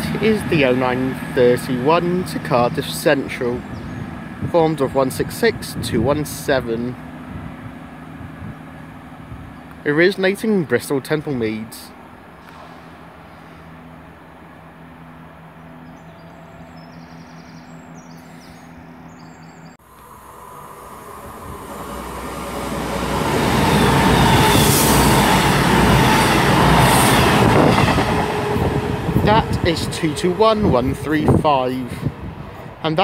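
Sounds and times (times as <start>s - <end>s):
low diesel hum: 0.0s - 27.7s
train passing at speed: 0.0s - 33.0s.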